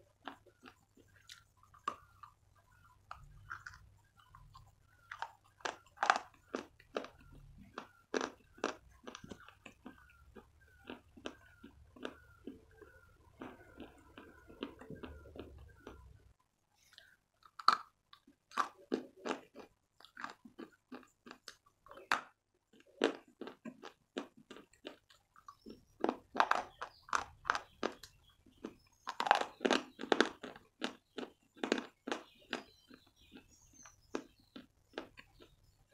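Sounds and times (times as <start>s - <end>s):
person chewing chalk: 0.0s - 16.1s, 16.8s - 35.9s.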